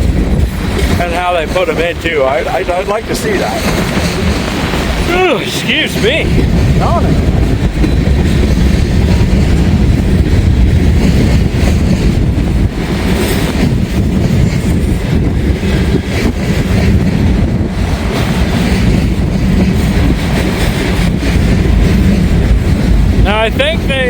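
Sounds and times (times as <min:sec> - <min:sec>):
freight train rumbling past: 0:00.0 - 0:24.0
train wheel clatter: 0:00.0 - 0:24.0.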